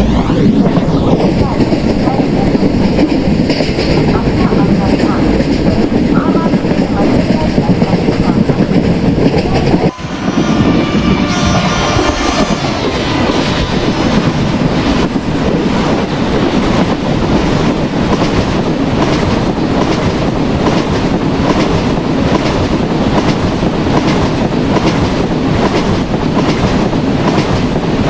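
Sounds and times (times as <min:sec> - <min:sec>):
train rumbling at speed: 0:00.0 - 0:28.0.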